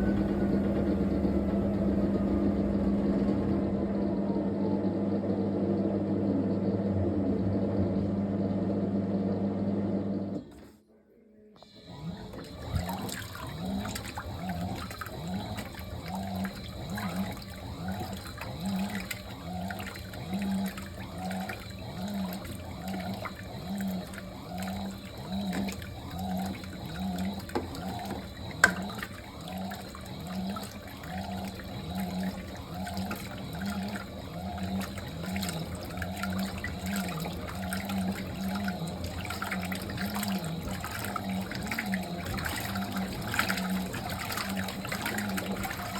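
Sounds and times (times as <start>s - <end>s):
washing machine motor pulsing: 0.0s - 10.7s, 11.6s - 45.9s
water swishing in washing machine: 0.0s - 10.8s, 11.6s - 45.9s.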